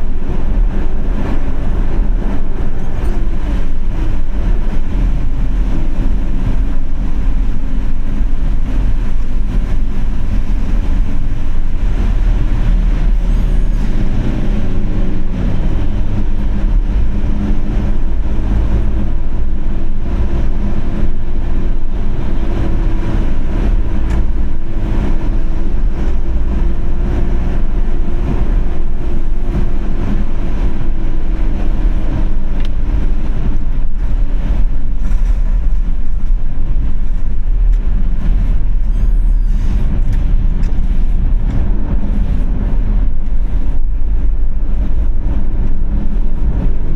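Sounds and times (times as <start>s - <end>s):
vehicle road and engine rumble: 0.0s - 46.9s.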